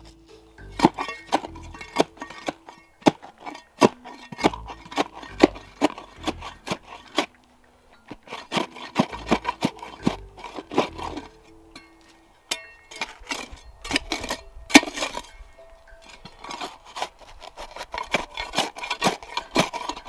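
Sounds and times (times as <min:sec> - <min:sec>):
background music: 0:00.0 - 0:20.0
digging tool scraping earth: 0:00.0 - 0:20.0.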